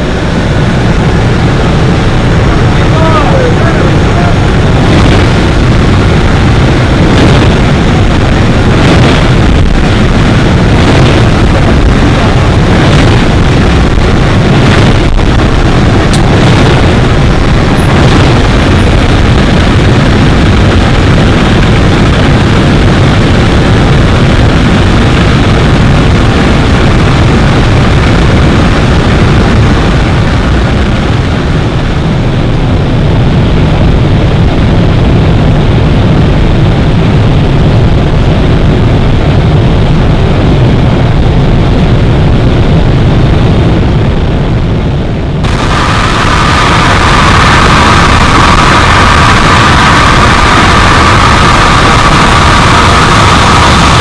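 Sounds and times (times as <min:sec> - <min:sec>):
aircraft engines droning: 0:00.0 - 0:54.0
wind buffeting microphone: 0:00.0 - 0:54.0
wind rushing through open door: 0:00.0 - 0:54.0.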